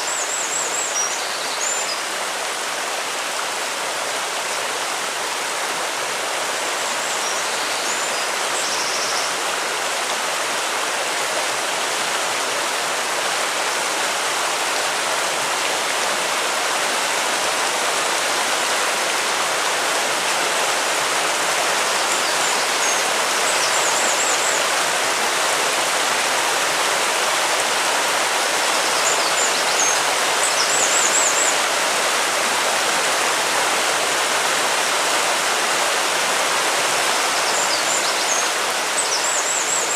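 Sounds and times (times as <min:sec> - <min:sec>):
water rushing in a stream: 0:00.0 - 0:39.9.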